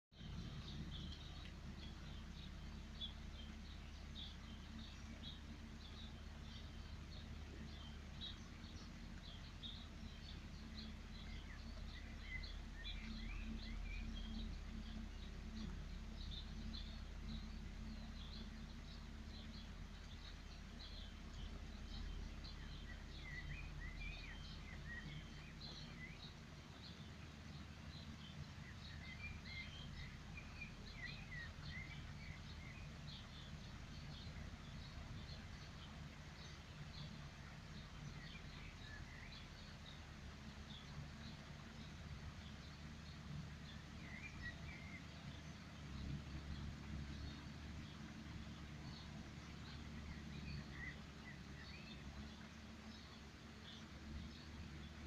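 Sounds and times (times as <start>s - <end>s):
low steady hum: 0.1s - 55.0s
small birds chirping: 0.2s - 55.0s.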